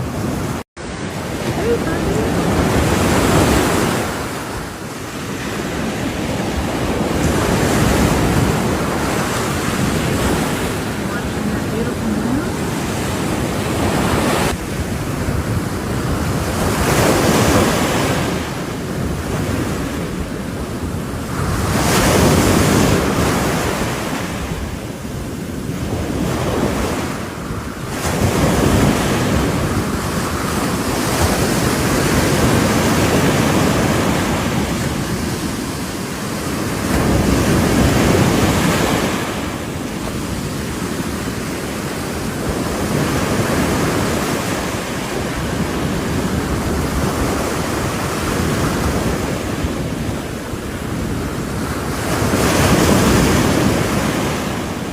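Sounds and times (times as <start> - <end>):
ocean waves breaking on shore: 0.0 - 54.9
wind rumbling on microphone: 0.0 - 54.9.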